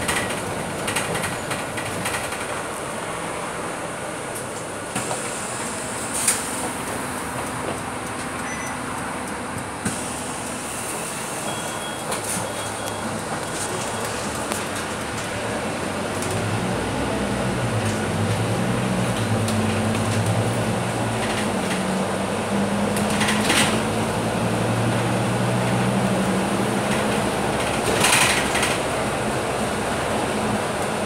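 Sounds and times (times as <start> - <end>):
bus diesel engine drone: 0.0 - 31.0
road and tyre noise: 0.0 - 31.0.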